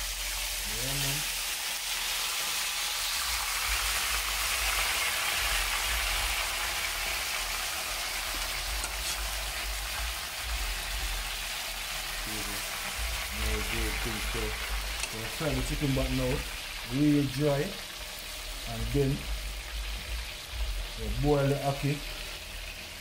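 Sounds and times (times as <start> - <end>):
chicken deep-frying in oil: 0.0 - 23.0.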